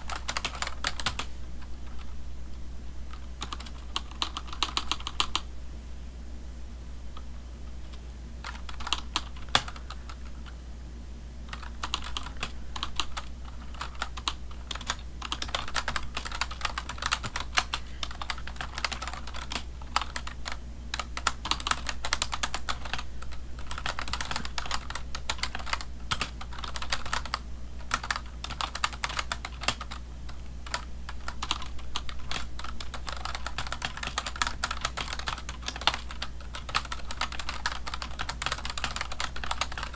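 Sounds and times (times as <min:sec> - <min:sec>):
computer keyboard typing: 0:00.0 - 0:02.1, 0:03.1 - 0:05.5, 0:07.9 - 0:10.6, 0:11.5 - 0:39.9.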